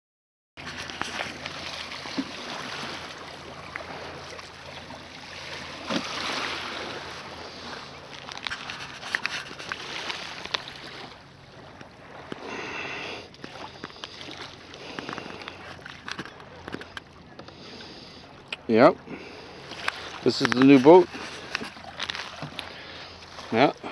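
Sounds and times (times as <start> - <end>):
kayak paddles splashing water: 0.6 - 23.9.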